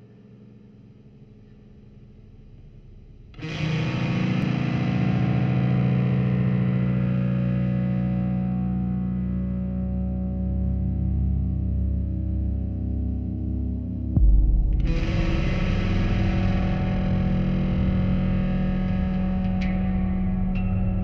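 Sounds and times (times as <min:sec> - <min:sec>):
distorted fretless guitar drone: 0:00.0 - 0:21.0.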